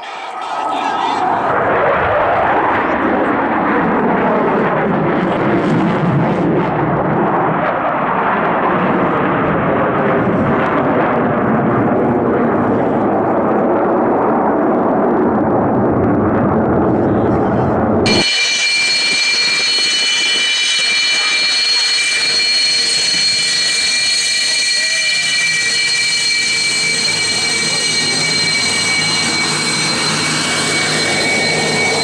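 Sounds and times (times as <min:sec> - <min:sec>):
jet engines flying overhead: 0:00.0 - 0:32.0.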